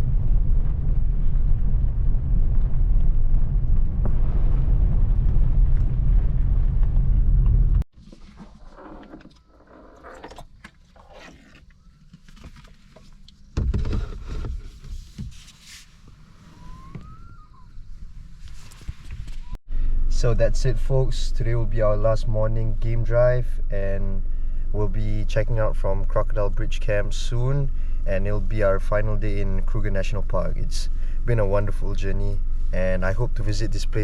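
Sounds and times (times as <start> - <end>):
car road and wind rumble: 0.0 - 7.9, 12.7 - 34.0.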